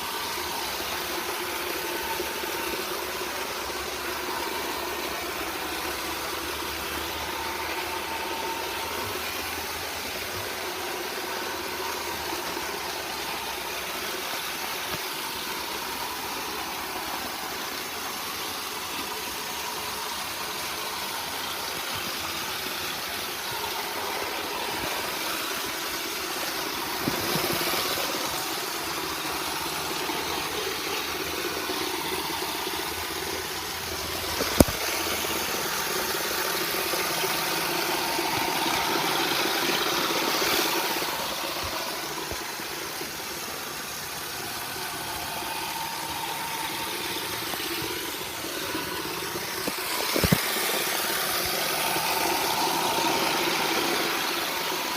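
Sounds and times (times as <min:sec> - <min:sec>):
robot vacuum whirring: 0:00.0 - 0:54.9.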